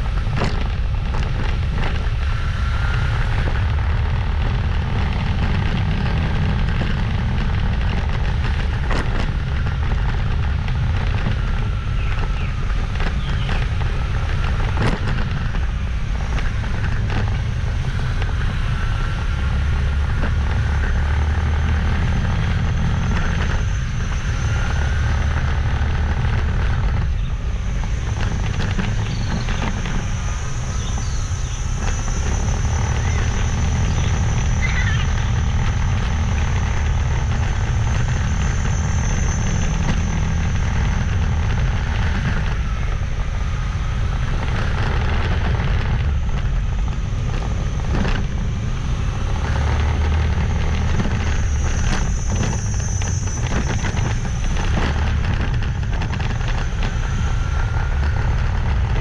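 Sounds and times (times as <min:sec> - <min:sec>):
motorbike engine running: 0:00.0 - 0:59.0
wind rumble on microphone: 0:00.0 - 0:59.0.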